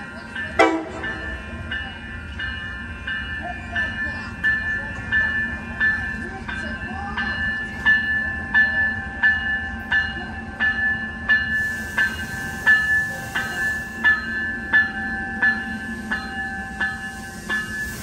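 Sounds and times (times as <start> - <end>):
low hum of a train: 0.0 - 18.0
railroad bell ringing: 0.0 - 18.0.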